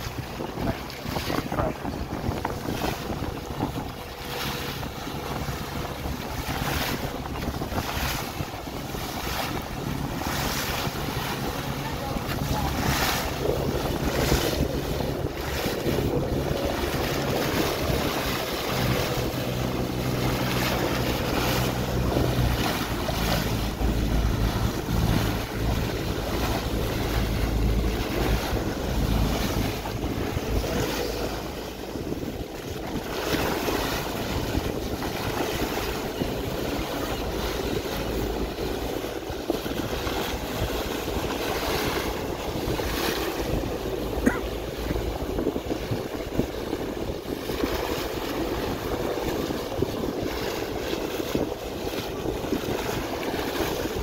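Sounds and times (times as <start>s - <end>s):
boat engine hum: 0.0s - 54.0s
water splashing along a boat hull: 0.0s - 54.0s
wind buffeting the microphone: 0.0s - 54.0s.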